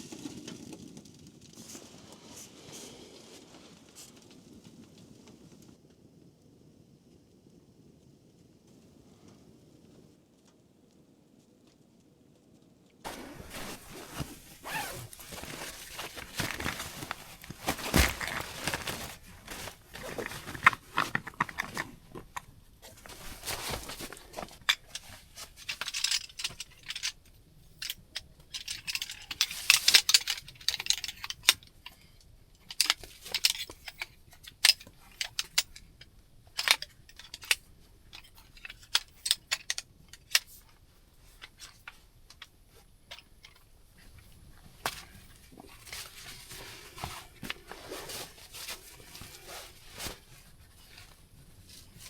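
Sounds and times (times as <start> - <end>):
rustling and crinkling: 0.0 - 6.3, 7.5 - 52.0.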